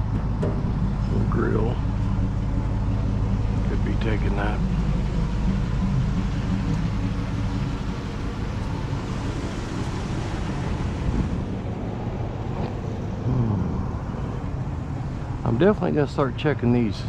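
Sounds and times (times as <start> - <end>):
road noise: 0.0 - 17.0
vehicle engine hum: 0.0 - 17.0.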